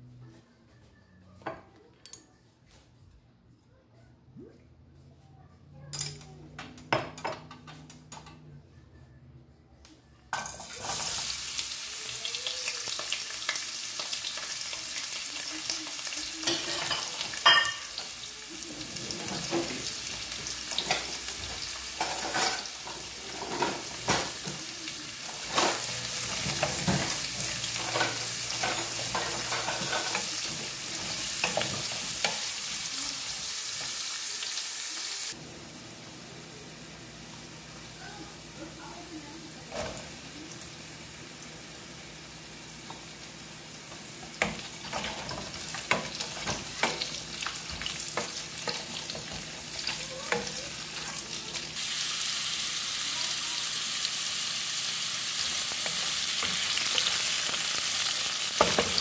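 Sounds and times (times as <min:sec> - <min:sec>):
vegetables sizzling in hot oil: 0:10.4 - 0:39.0, 0:39.6 - 0:59.0.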